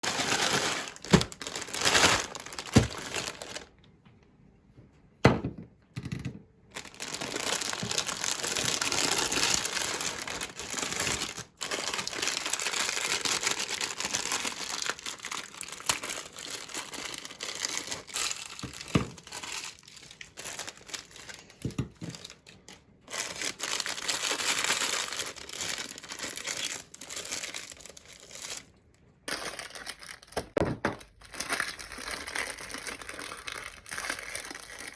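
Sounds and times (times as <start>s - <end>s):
plastic packaging crinkling: 0.0s - 3.8s, 6.7s - 34.9s.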